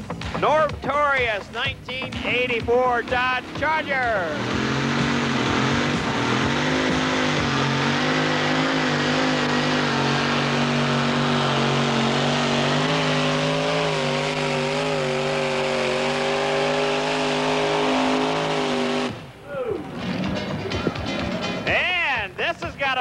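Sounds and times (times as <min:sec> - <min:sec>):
truck engine running hard: 0:01.5 - 0:21.7.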